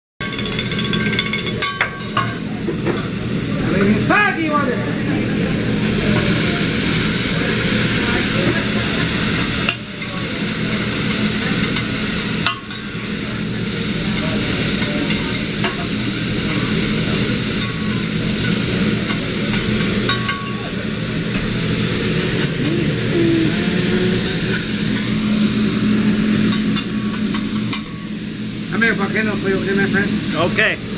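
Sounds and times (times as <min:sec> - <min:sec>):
sizzling hiss: 0:05.9 - 0:30.9.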